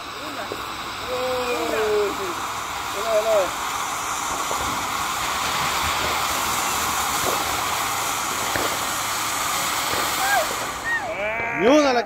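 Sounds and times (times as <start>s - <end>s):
firework crack: 0.0s - 12.0s
firework fountain hissing: 0.0s - 12.0s.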